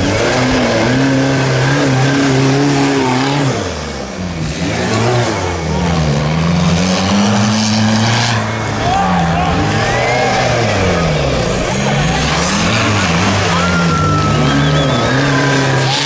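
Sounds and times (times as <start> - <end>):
off-road engines revving: 0.0 - 16.0.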